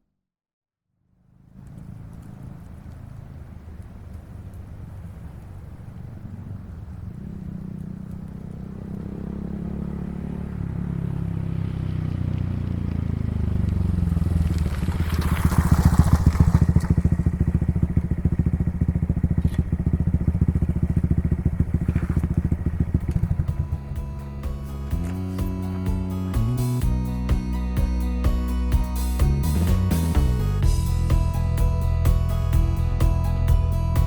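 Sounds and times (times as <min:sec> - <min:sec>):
motorcycle engine exhaust: 0:01.0 - 0:34.0.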